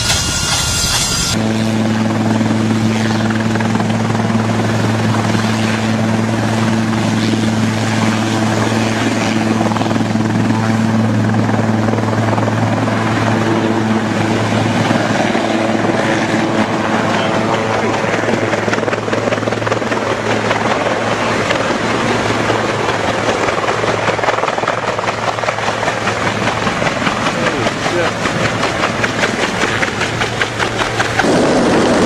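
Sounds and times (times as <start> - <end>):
helicopter rotor and turbine: 0.0 - 32.0.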